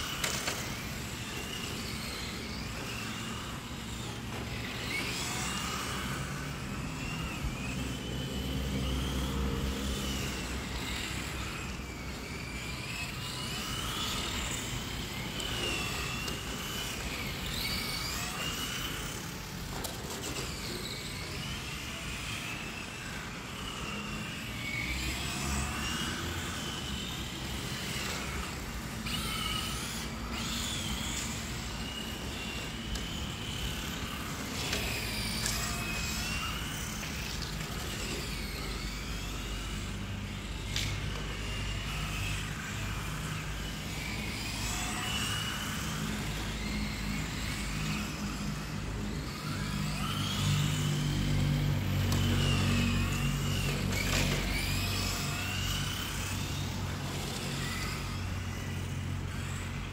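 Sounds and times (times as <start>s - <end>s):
rc car motors whining: 0.0s - 59.9s.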